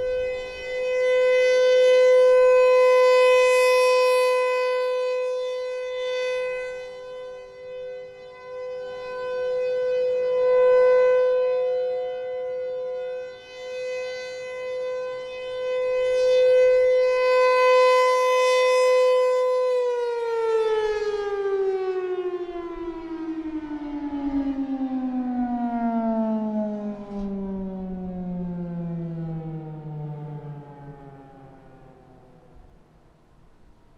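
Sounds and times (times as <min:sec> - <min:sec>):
warning siren winding down: 0:00.0 - 0:33.3.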